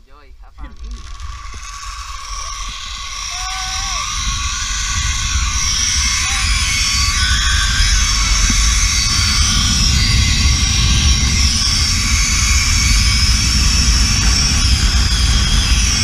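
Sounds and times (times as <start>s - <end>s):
wind rumbling on microphone: 0.0s - 16.0s
zipline pulleys whirring on cable: 0.6s - 16.0s.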